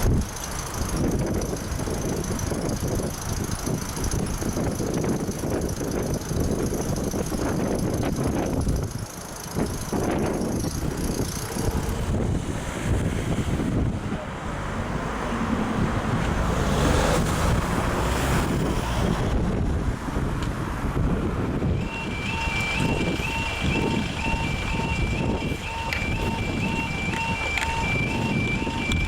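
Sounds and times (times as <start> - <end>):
vehicles passing: 0.0 - 29.0
wind buffeting microphone: 0.0 - 29.0.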